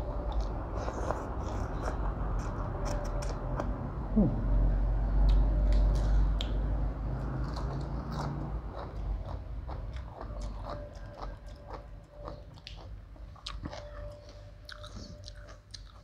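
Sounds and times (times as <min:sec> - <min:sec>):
person chewing crisp vegetables: 0:00.0 - 0:03.8, 0:05.2 - 0:16.0.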